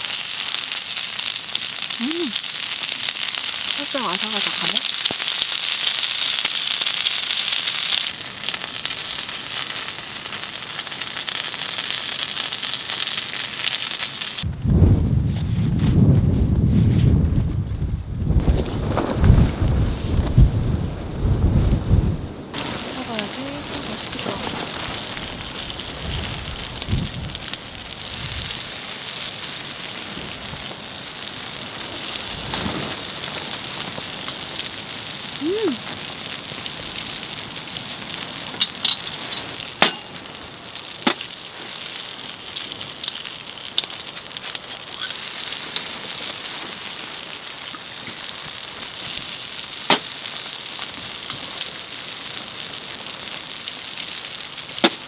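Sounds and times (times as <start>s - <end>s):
potatoes sizzling in a pan: 0.0s - 14.5s, 22.5s - 55.0s.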